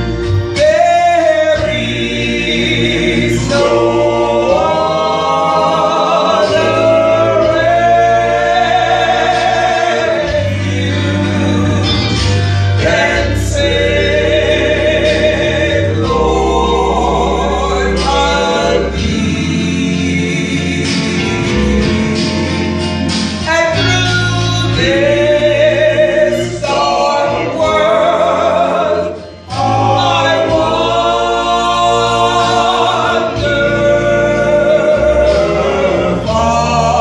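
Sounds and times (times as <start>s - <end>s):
low instrumental bass line: 0.0s - 37.0s
vocal group singing in harmony: 0.0s - 37.0s.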